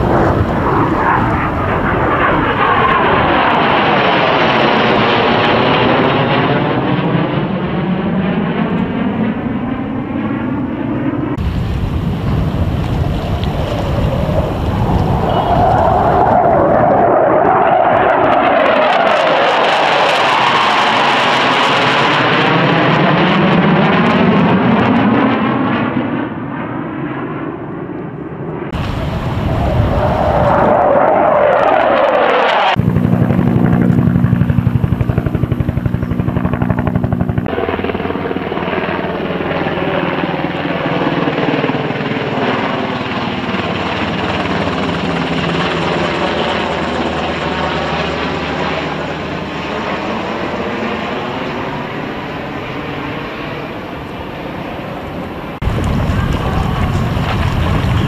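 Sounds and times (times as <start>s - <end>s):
helicopter rotor beat: 0.0s - 25.0s, 28.7s - 58.0s
fighter jet flying past: 0.0s - 58.0s
helicopter rotor and turbine passing: 0.0s - 58.0s.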